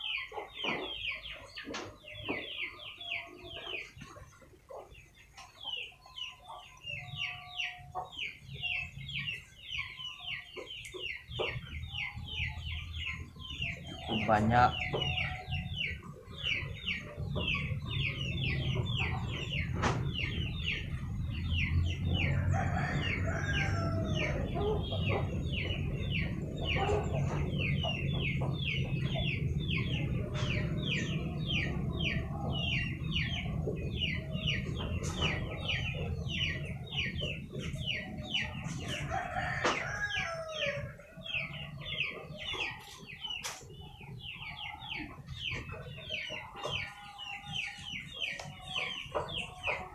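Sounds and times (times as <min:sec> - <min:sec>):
chicken clucking: 0:00.0 - 0:49.9
chicks peeping: 0:00.0 - 0:49.9.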